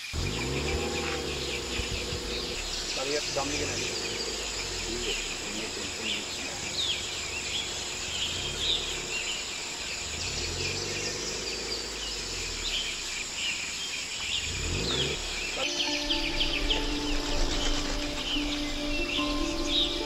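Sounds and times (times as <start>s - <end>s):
high drone of insects: 0.0s - 20.0s
low rumble: 0.2s - 13.2s, 14.3s - 20.0s.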